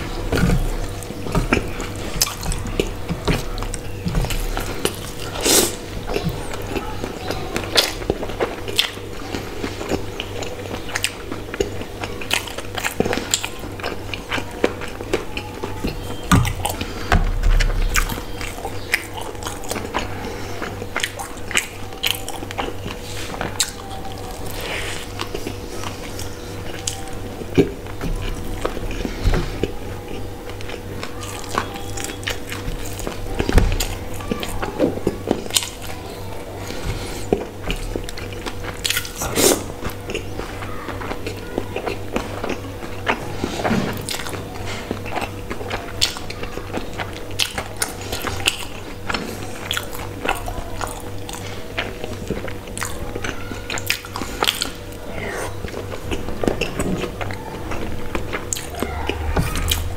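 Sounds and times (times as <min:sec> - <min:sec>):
chewing and biting food: 0:00.0 - 0:59.9
faint steady hum: 0:00.0 - 0:59.9.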